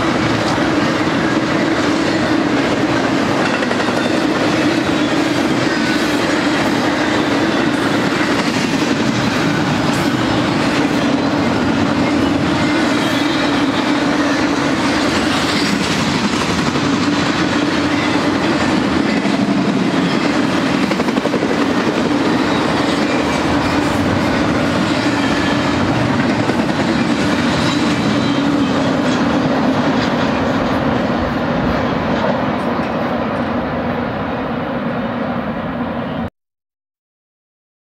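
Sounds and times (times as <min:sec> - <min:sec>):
freight cars rolling on rails: 0:00.0 - 0:36.2.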